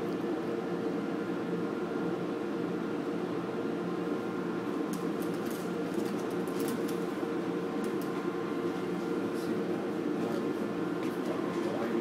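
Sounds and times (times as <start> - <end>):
muffled machinery drone: 0.0 - 12.0.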